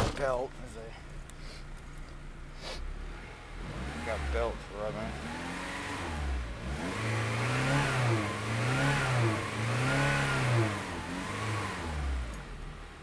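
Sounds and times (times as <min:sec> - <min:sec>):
car engine revving: 0:02.0 - 0:13.0.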